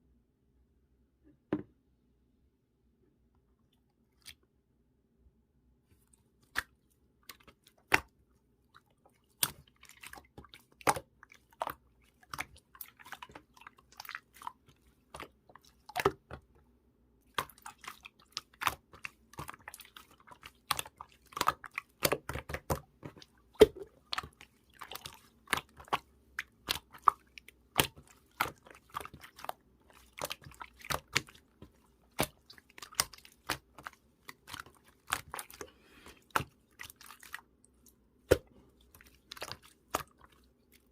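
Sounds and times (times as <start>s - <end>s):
slime squishing with clicks: 5.9s - 40.9s.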